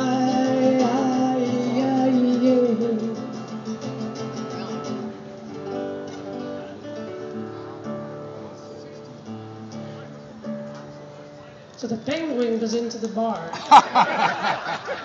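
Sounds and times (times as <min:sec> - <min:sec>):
acoustic guitar picked notes: 0:00.0 - 0:13.0.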